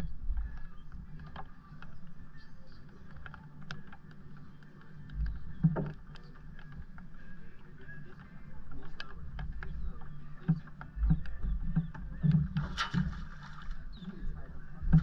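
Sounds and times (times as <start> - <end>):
water against boat hull: 0.0 - 15.0
light clicks and taps: 0.3 - 15.0.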